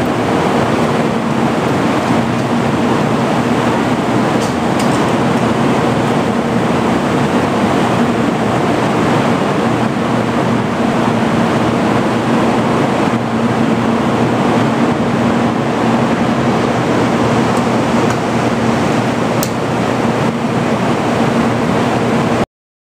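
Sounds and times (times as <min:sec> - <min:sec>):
electric trains humming: 0:00.0 - 0:22.4
steady rushing noise: 0:00.0 - 0:22.4.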